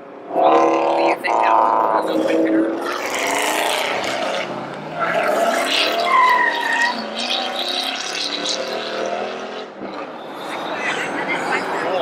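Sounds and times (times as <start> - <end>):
car engine revving: 0.2 - 12.0.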